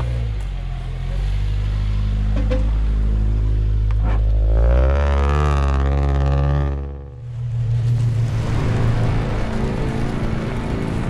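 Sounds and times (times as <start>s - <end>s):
car engine driving slowly: 0.0s - 11.0s.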